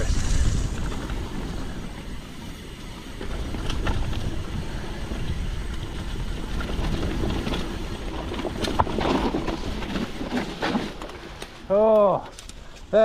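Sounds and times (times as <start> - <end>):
wind rumble on microphone: 0.0 - 10.6
bike rattling and clacking: 0.0 - 13.0
bike tyre noise on dirt: 0.0 - 13.0.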